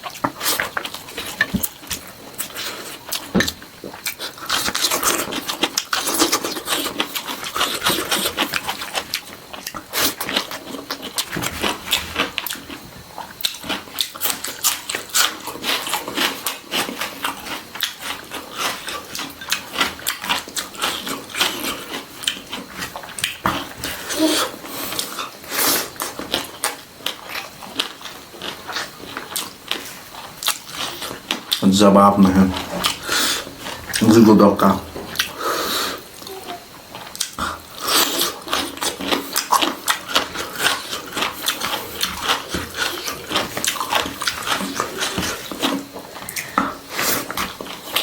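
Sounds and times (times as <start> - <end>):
person chewing food: 0.0 - 48.0.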